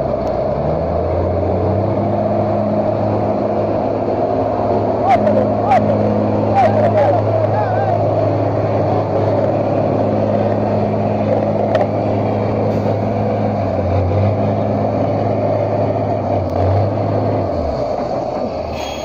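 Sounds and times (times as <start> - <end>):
truck engine running hard: 0.0 - 19.0.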